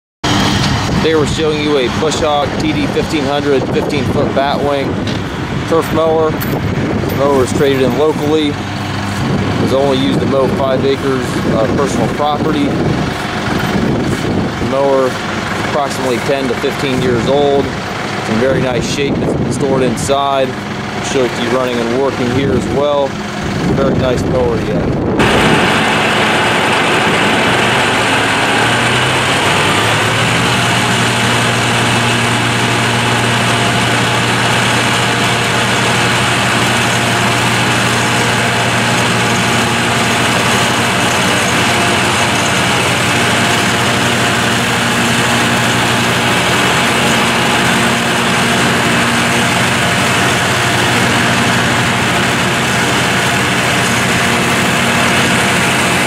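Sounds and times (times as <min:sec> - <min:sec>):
tractor engine running: 0:00.2 - 0:56.0.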